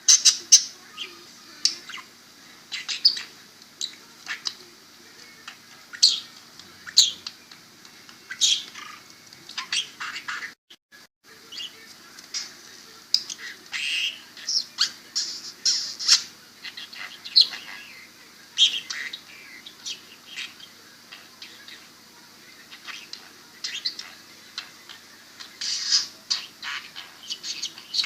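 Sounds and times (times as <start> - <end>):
budgie chirping and squawking: 0.0 - 4.7, 5.4 - 7.4, 8.1 - 10.6, 13.3 - 22.0, 22.7 - 28.0.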